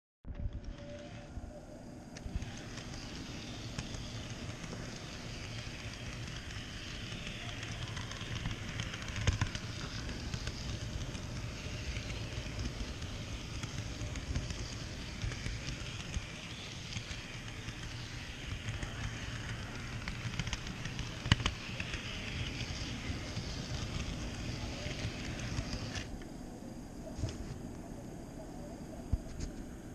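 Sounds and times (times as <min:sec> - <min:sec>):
small irregular clicks: 0:02.1 - 0:26.3
model train wheels rattling on rails: 0:02.2 - 0:26.3.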